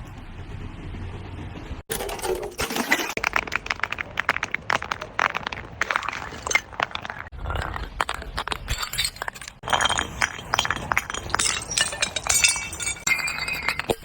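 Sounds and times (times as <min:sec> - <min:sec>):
glass crushing and breaking: 0:01.9 - 0:14.0
glass shards clinking: 0:01.9 - 0:14.0.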